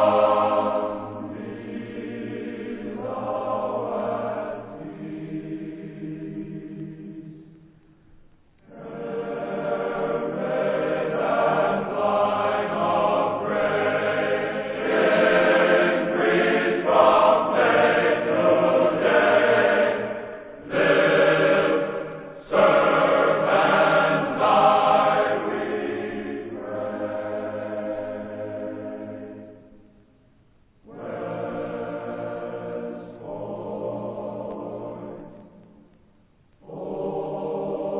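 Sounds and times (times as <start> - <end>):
choir singing: 0.0 - 7.7, 8.6 - 30.1, 30.8 - 35.9, 36.5 - 37.9.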